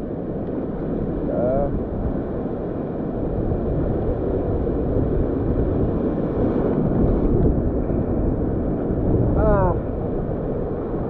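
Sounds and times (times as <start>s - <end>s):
shallow surf washing: 0.0s - 11.0s
wind rumbling on microphone: 0.0s - 11.0s.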